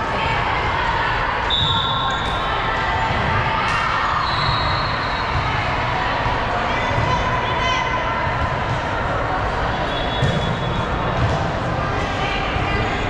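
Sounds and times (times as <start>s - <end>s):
voices echoing in hall: 0.0s - 13.0s.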